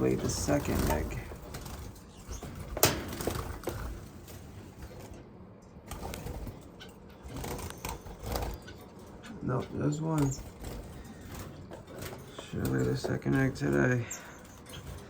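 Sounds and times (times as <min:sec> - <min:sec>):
finches chirping and calling: 0:00.0 - 0:04.1, 0:06.2 - 0:15.0.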